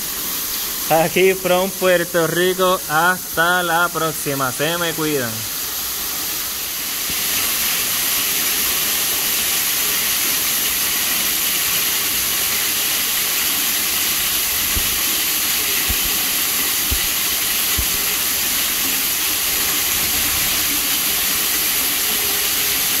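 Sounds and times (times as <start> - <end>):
waterfall hissing: 0.0 - 23.0.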